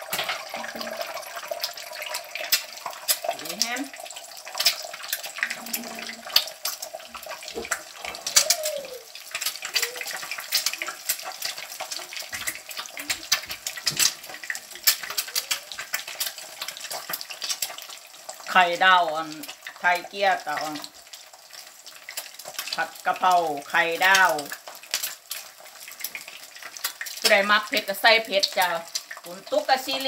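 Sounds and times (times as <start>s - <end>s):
egg sizzling in hot oil: 0.0s - 30.0s
spattering oil crackling: 0.0s - 30.0s.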